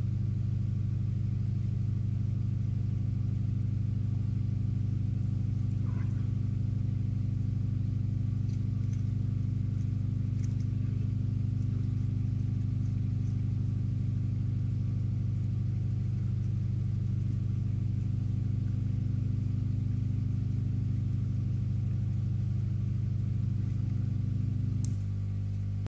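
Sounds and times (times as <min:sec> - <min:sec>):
low pulsing machine hum: 0:00.0 - 0:25.9.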